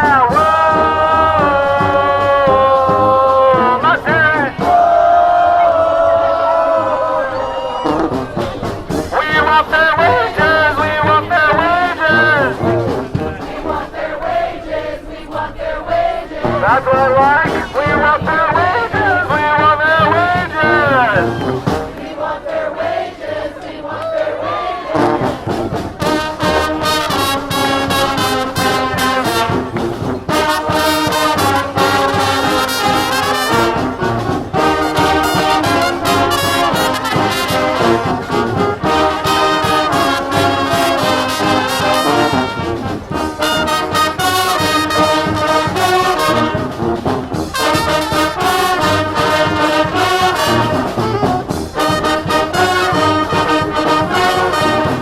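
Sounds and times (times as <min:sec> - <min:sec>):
steady percussive beat: 0:00.0 - 0:07.1, 0:07.8 - 0:23.4, 0:24.9 - 0:55.0
marching band brass: 0:00.0 - 0:55.0.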